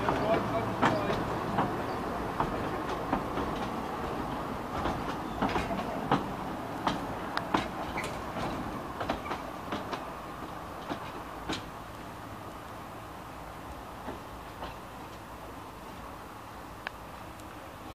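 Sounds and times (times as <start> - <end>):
train wheels clicking on track: 0.0 - 17.6
carriages rumbling: 0.0 - 17.9.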